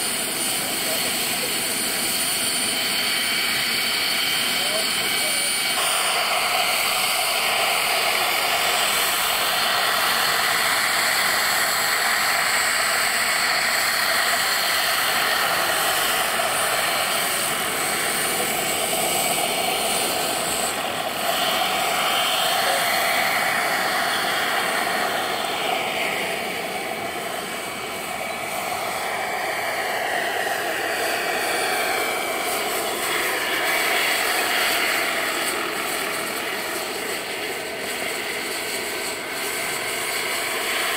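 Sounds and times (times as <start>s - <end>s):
helicopter rotor noise: 0.0s - 40.9s
model helicopter turbine whine: 0.0s - 40.9s.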